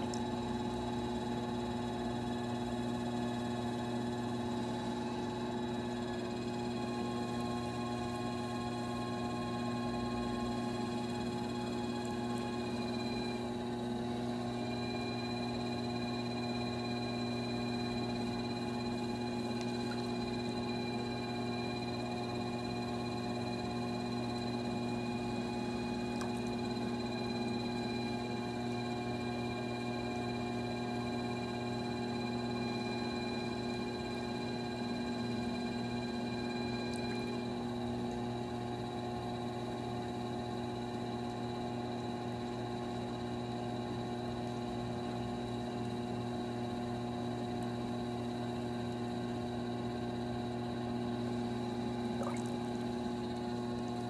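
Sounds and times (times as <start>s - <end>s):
potter's wheel motor hum: 0.0s - 54.0s.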